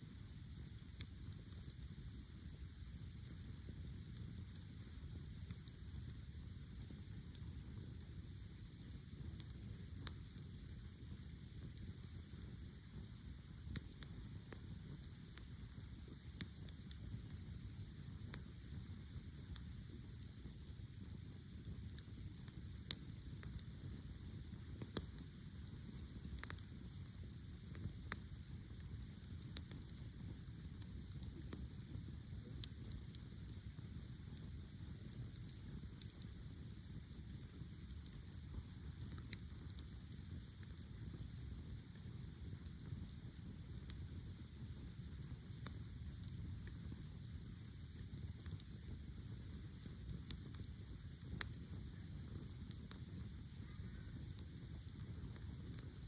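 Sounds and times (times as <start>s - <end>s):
crickets chirring: 0.0s - 56.0s
campfire popping: 3.5s - 56.0s.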